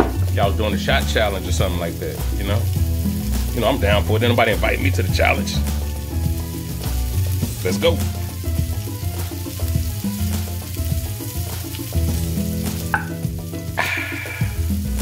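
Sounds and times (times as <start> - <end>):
background music with bass line: 0.0 - 15.0
fish sizzling in oil: 0.0 - 15.0.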